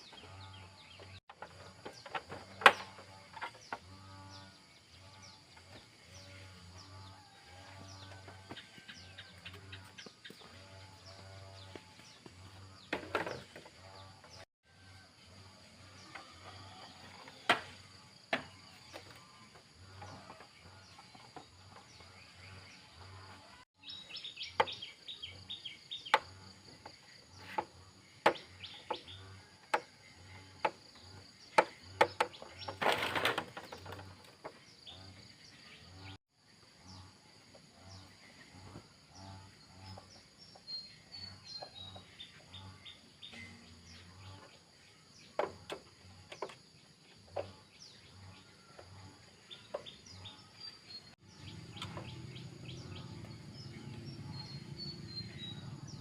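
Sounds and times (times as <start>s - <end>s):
birds chirping: 0.0s - 14.5s, 15.8s - 36.2s, 36.8s - 56.0s.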